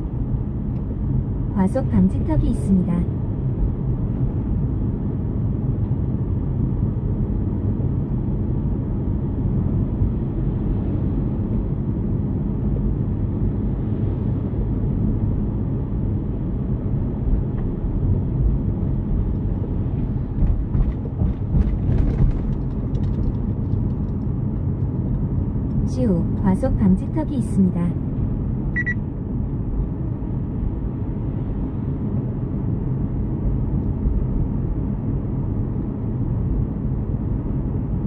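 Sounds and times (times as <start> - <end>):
road and tyre rumble in car: 0.0 - 38.0.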